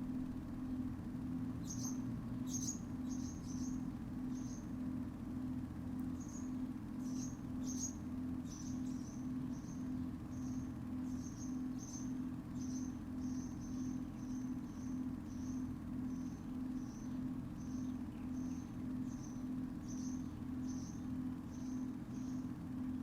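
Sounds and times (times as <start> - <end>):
pulsing low hum: 0.0 - 23.0
small bird chirping: 1.5 - 4.8, 6.1 - 22.6.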